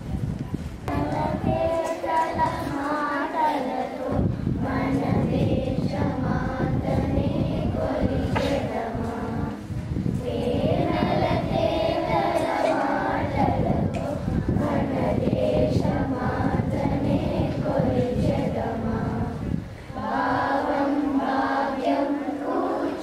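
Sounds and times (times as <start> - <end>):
children singing in unison: 0.9 - 23.0.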